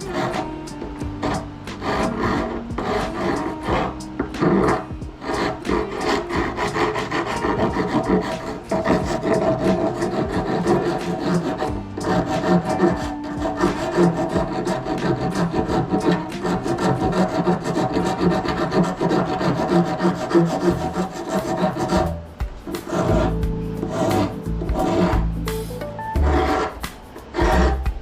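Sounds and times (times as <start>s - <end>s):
hand rasp scraping: 0.0s - 25.4s, 26.2s - 28.0s.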